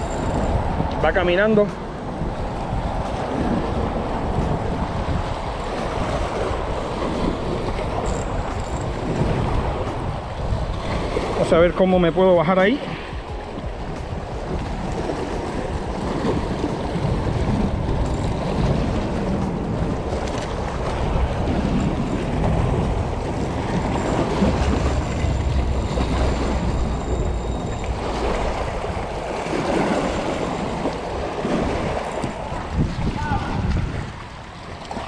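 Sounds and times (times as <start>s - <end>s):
waves breaking on rocks: 0.0s - 35.0s
wind buffeting microphone: 0.0s - 35.0s.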